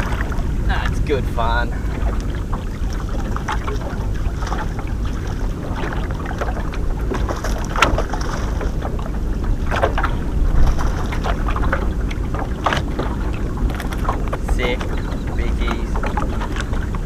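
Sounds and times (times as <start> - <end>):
splashes and knocks: 0.0 - 1.0, 1.8 - 17.0
water slapping boat hull: 0.0 - 17.0
wind on microphone: 0.0 - 17.0.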